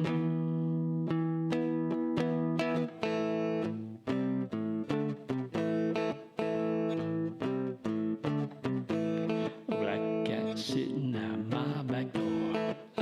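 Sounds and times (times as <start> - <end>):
guitar playing chords and notes: 0.0 - 13.0.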